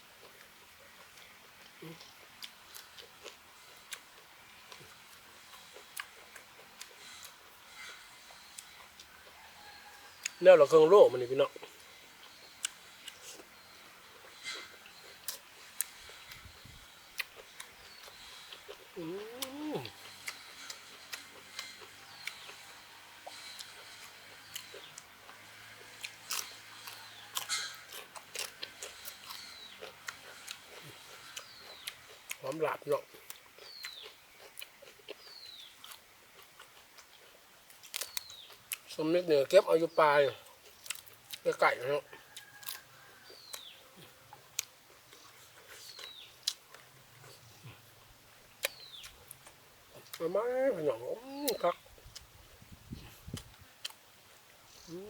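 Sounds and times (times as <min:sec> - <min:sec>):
person chewing crunchy food: 0:00.1 - 0:10.4, 0:11.0 - 0:55.0
small bird chirping: 0:04.6 - 0:10.6, 0:11.2 - 0:47.7, 0:48.5 - 0:53.6.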